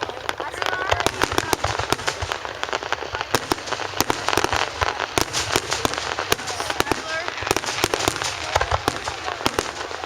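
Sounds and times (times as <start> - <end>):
fireworks popping and crackling: 0.0 - 10.0.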